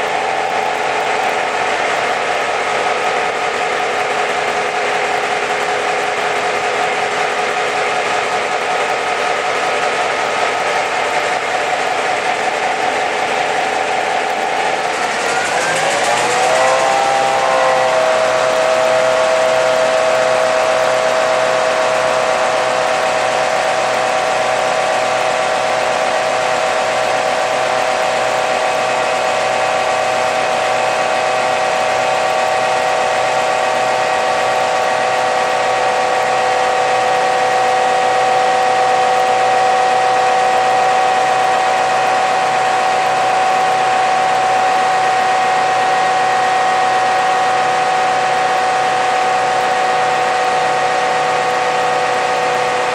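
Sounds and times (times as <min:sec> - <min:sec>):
diesel engine running: 0:00.0 - 0:52.9
steady high whine: 0:00.0 - 0:52.9.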